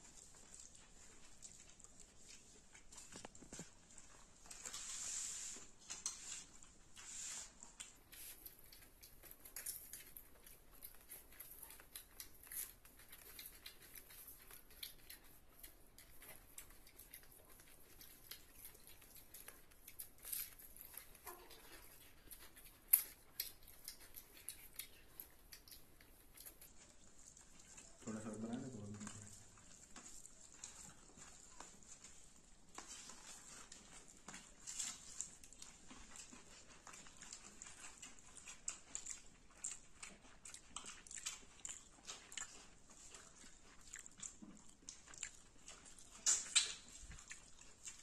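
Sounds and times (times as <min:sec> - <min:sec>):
soft eating clicks and smacks: 0:00.0 - 0:48.0.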